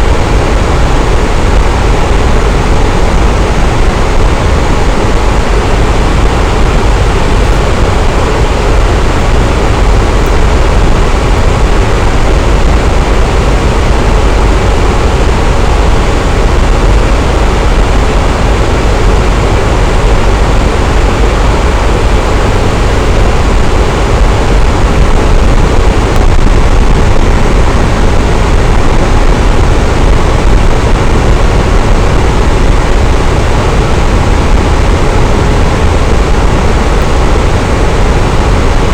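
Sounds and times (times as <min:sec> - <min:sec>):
electric fan whooshing: 0:00.0 - 0:38.9.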